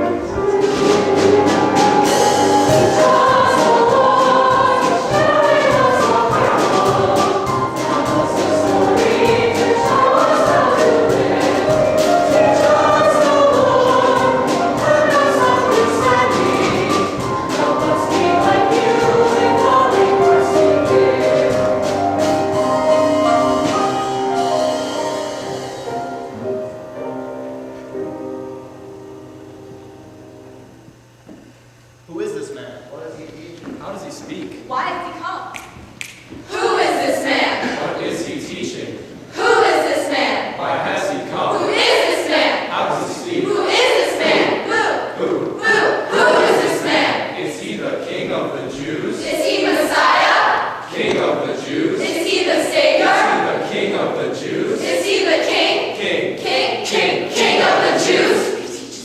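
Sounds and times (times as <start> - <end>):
choir singing with instruments: 0.0 - 30.7, 36.4 - 59.0.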